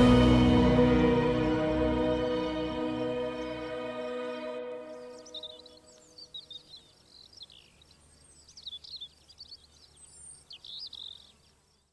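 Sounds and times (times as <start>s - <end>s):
birds chirping and twittering: 0.0s - 11.9s.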